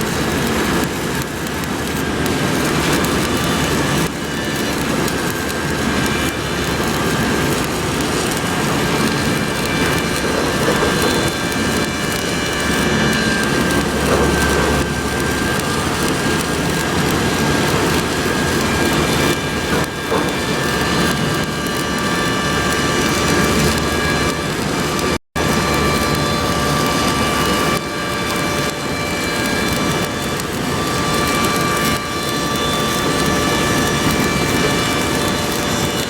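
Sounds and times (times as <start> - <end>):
welding arc crackling: 0.0 - 36.0.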